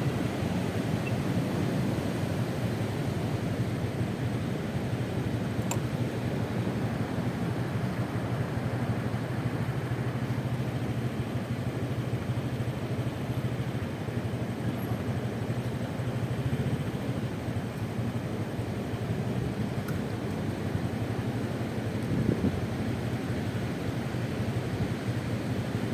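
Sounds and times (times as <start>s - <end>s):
road and wind noise: 0.0s - 25.9s
scooter engine running: 0.0s - 25.9s.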